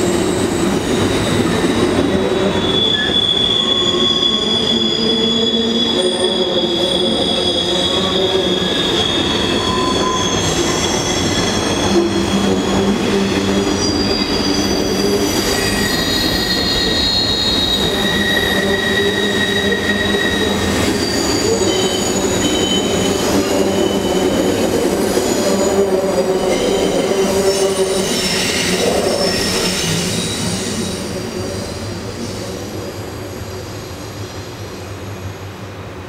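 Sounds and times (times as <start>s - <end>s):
train wheels squealing: 0.0s - 35.5s.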